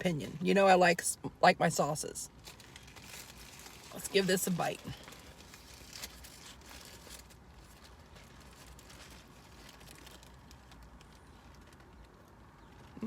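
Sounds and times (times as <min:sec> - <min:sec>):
soft clicks and crinkles: 0:02.3 - 0:13.0.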